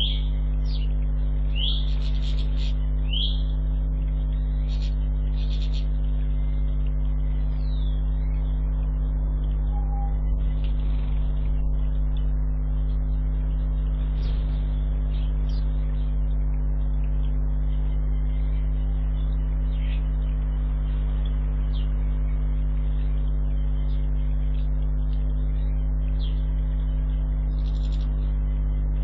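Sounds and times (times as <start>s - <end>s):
low electrical hum: 0.0s - 29.0s
small birds chirping: 0.0s - 29.0s.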